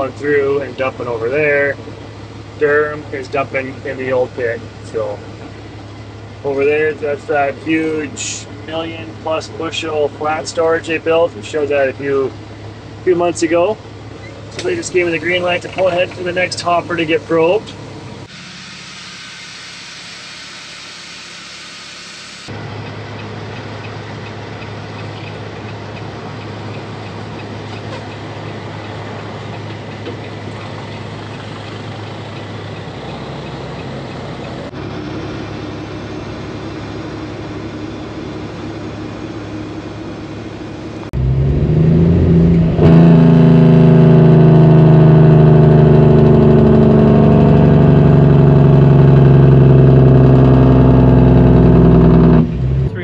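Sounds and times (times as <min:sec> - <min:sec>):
truck diesel engine droning: 0:00.0 - 0:53.0.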